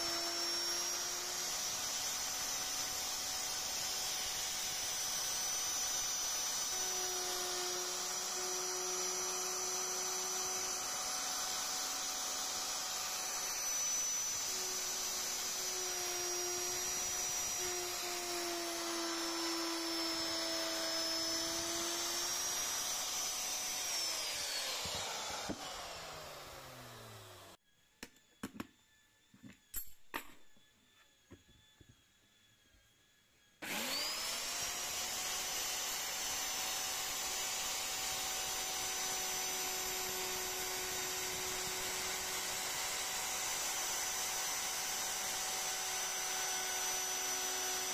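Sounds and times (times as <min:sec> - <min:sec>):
electric router whining: 0:00.0 - 0:27.6, 0:33.6 - 0:47.9.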